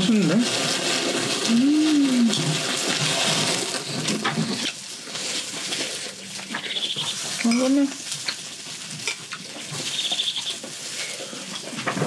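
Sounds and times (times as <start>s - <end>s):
meat sizzling on a grill: 0.0s - 11.8s.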